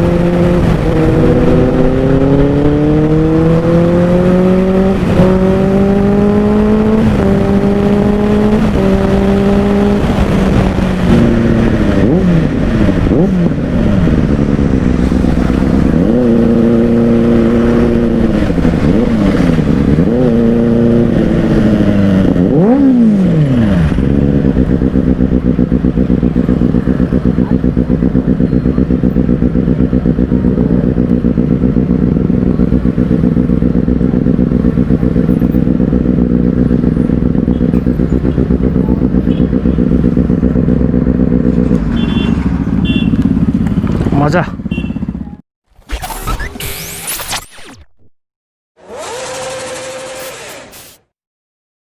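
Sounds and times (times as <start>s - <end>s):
motorcycle engine revving and idling: 0.0s - 45.4s, 48.8s - 51.2s.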